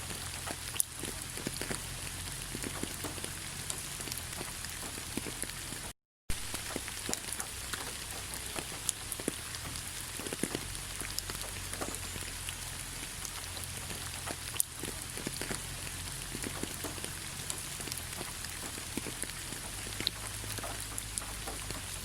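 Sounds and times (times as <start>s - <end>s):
rain falling: 0.0s - 22.0s
raindrops ticking on a surface: 0.0s - 22.0s.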